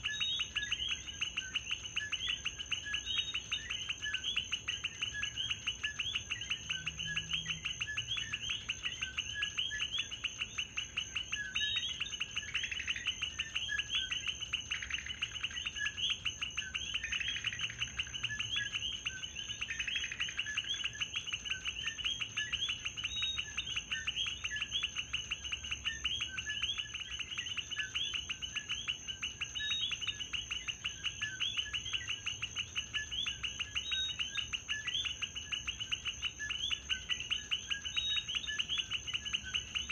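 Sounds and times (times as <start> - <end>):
frogs chirping: 0.0 - 39.9.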